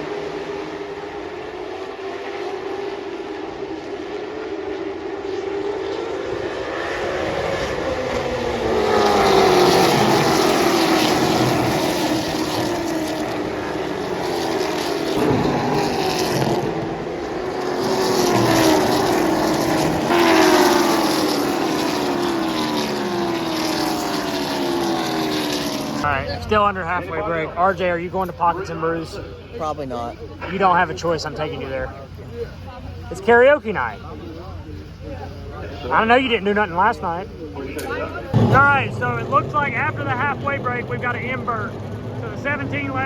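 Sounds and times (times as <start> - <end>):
race car engines passing: 0.0 - 43.0.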